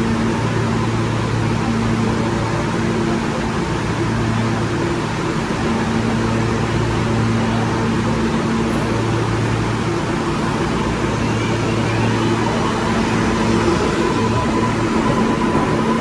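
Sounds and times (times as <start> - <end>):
subway train noise: 0.0 - 16.0.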